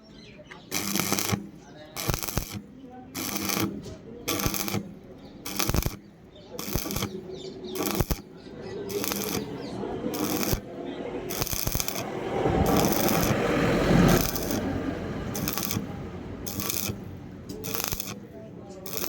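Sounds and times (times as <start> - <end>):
electric arc welding crackling: 0.6 - 19.0.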